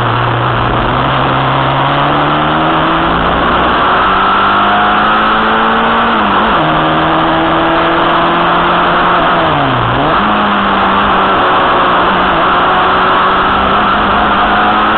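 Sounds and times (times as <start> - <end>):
racing car engine revving: 0.0 - 14.9
wind and road noise: 0.0 - 14.9.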